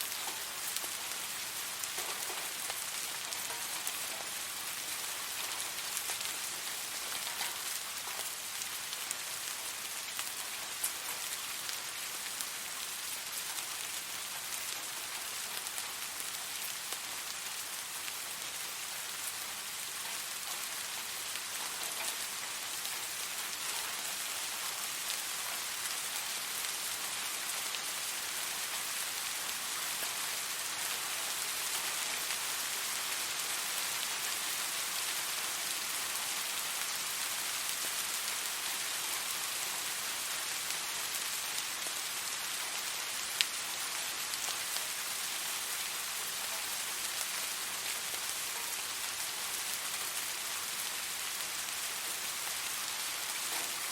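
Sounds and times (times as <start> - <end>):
rain on a hard surface: 0.0 - 53.9.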